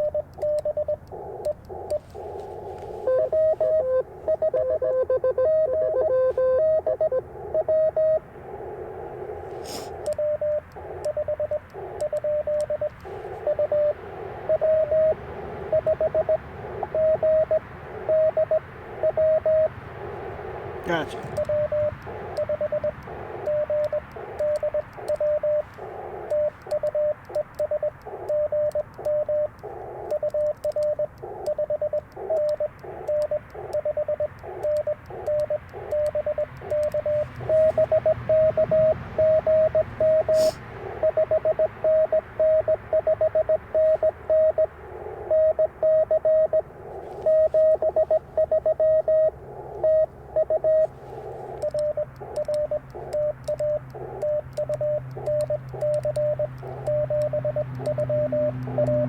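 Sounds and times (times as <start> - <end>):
morse code tone: 0.0 - 19.7, 20.8 - 59.0
receiver hiss: 0.0 - 59.0.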